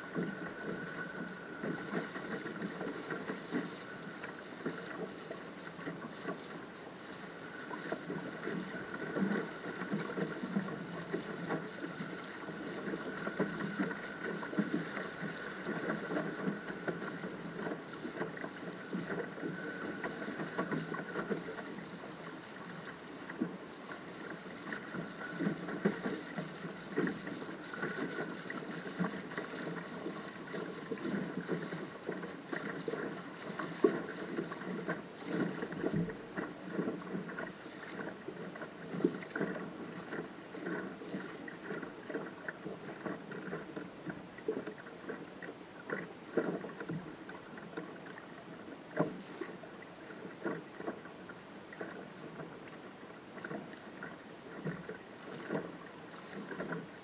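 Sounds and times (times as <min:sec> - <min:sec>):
water rushing against hull: 0:00.0 - 0:57.0
water splashes: 0:00.0 - 0:57.0.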